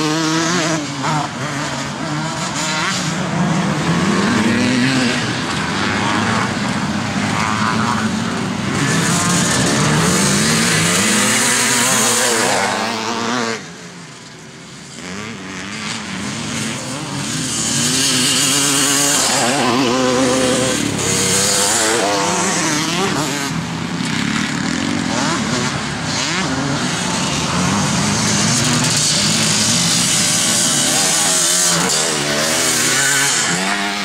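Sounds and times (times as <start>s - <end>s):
motocross bikes racing past: 0.0s - 34.0s.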